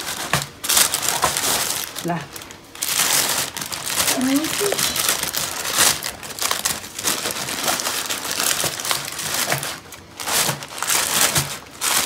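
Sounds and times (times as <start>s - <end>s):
paper crinkling and crumpling: 0.0s - 12.0s.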